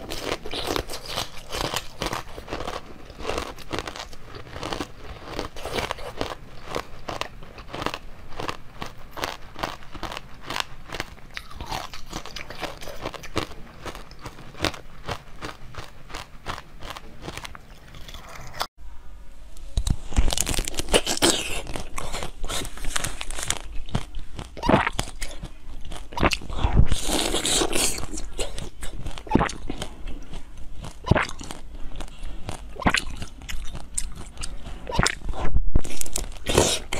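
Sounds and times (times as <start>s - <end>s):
biting and chewing an orange: 0.0s - 18.7s, 19.8s - 36.9s
crunchy bites and chewing: 0.0s - 18.7s, 19.8s - 36.9s.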